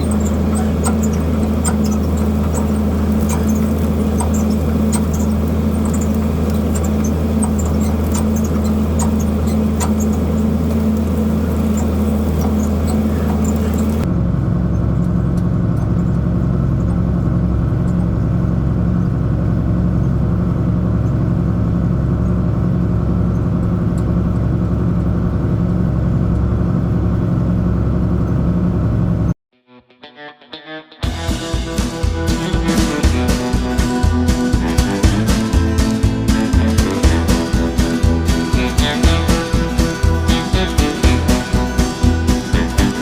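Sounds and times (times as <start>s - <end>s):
light rattling and clicking: 0.0s - 26.6s, 32.9s - 43.0s
steady engine drone: 0.0s - 29.4s, 31.1s - 43.0s
tractor engine running: 0.0s - 29.4s, 31.1s - 43.0s.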